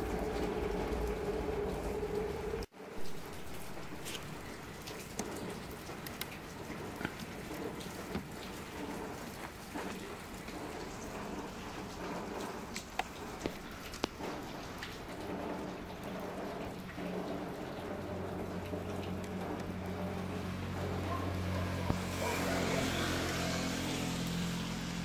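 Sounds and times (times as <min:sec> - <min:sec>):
rain-like hiss: 0:00.0 - 0:25.0.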